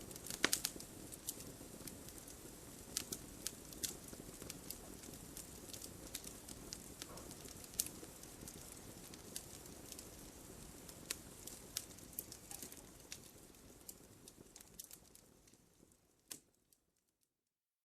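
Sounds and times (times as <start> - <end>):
campfire crackling and popping: 0.0 - 17.2.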